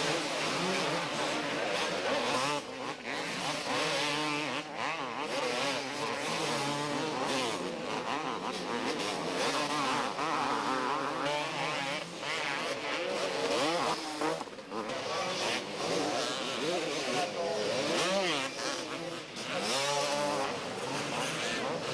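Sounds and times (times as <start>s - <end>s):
motocross bikes revving: 0.0s - 21.9s.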